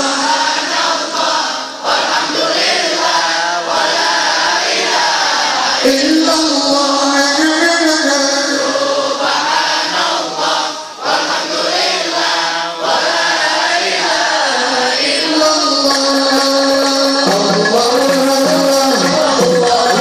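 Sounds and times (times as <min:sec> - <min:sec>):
crowd chanting over loudspeakers: 0:00.0 - 0:20.0.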